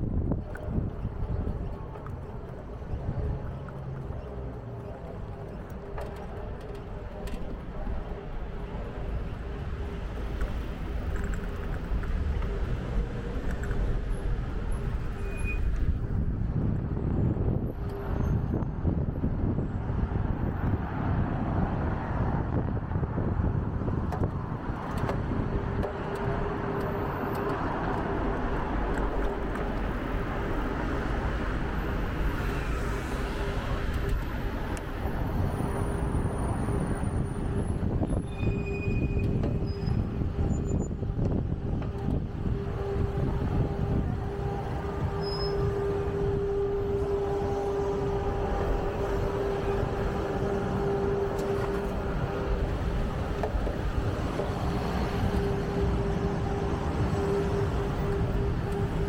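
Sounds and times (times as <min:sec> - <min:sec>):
passing vehicles: 0:00.0 - 0:59.0.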